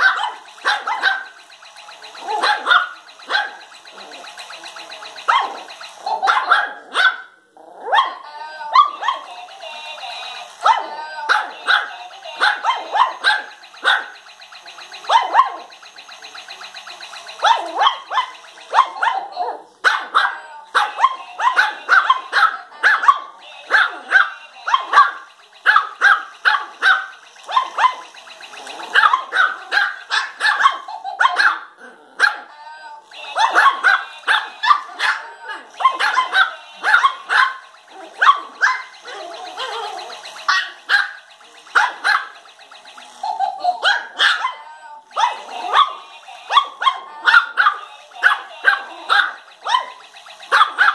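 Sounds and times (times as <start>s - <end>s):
puppies yapping: 0.0s - 1.4s, 2.0s - 4.3s, 10.1s - 14.2s, 14.9s - 15.8s, 17.0s - 32.5s, 33.2s - 42.4s, 43.0s - 50.9s.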